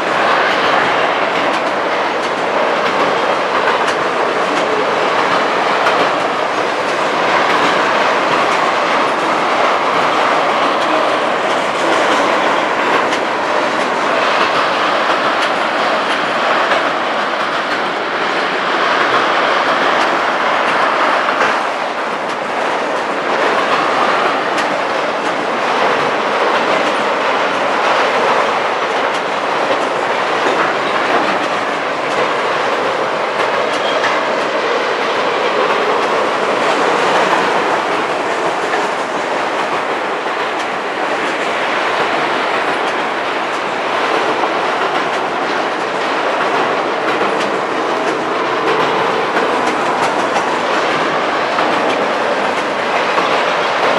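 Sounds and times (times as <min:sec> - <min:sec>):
freight cars rumbling on rails: 0:00.0 - 0:53.9
wheels clicking over rail joints: 0:00.0 - 0:53.9.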